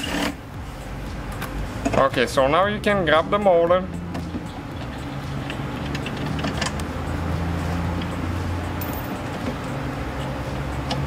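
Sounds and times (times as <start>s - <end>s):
steady low hum: 0.4s - 11.0s.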